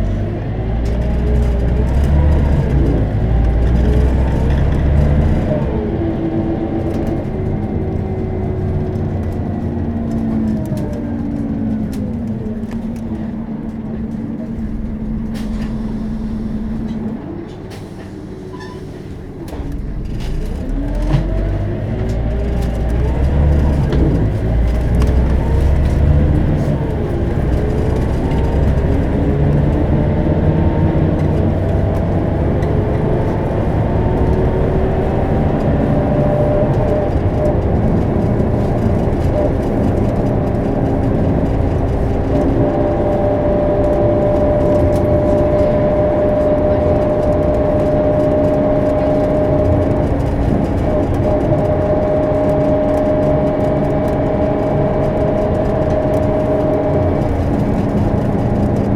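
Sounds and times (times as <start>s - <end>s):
bus engine pulling away: 0.0s - 58.9s.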